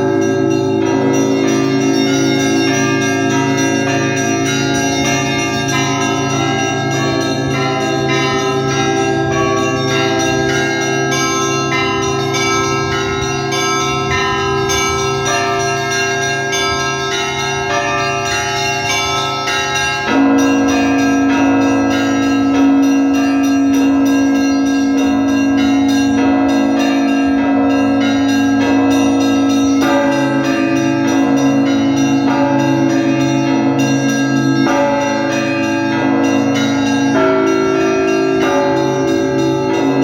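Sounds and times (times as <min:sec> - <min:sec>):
deep low bell struck: 0:00.0 - 0:40.0
large bell ringing: 0:00.0 - 0:40.0
small church bells chiming: 0:00.0 - 0:40.0.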